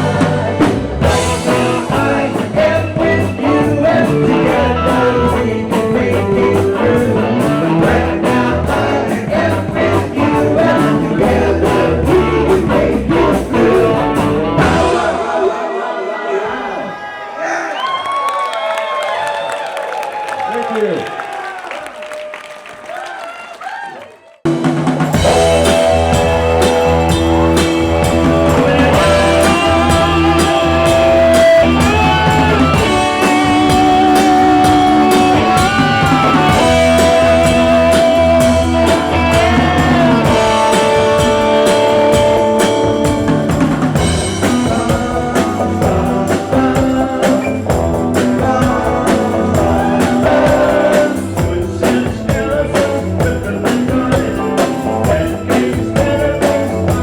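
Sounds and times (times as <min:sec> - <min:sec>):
rock music with singer: 0:00.0 - 0:16.9, 0:24.8 - 0:57.0.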